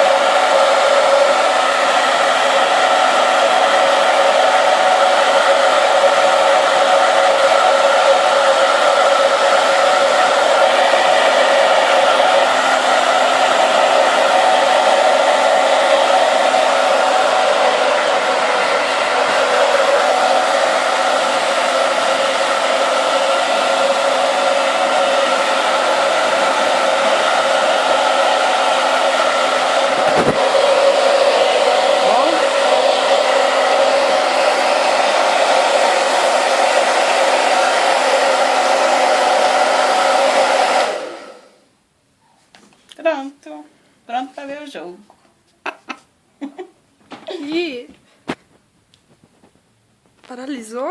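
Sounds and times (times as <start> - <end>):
hair dryer running: 0.0 - 41.7, 47.2 - 47.8.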